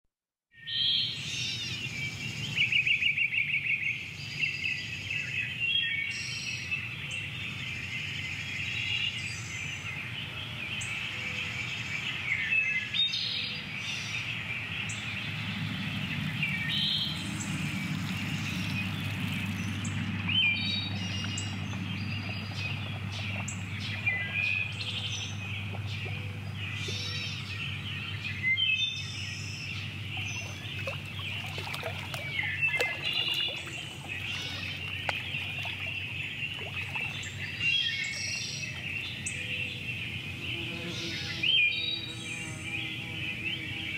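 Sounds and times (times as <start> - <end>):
songbirds singing and chirping: 0.6 - 43.9.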